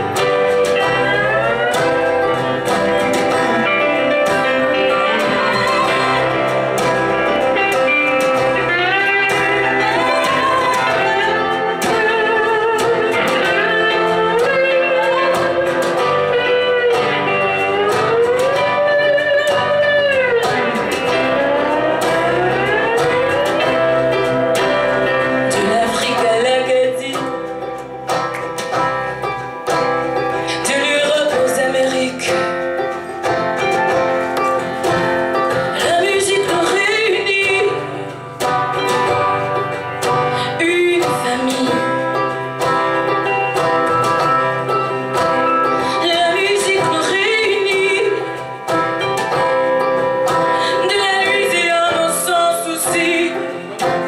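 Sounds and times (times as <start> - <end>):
electric guitar bending notes: 0.0 - 54.0
live band playing: 0.0 - 54.0.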